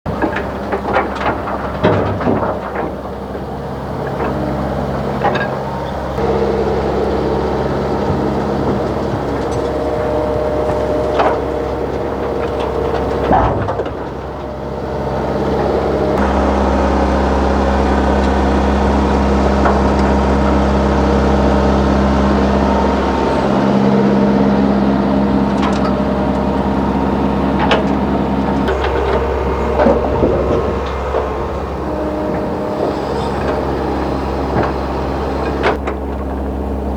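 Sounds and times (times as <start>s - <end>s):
excavator engine running: 0.1s - 36.9s.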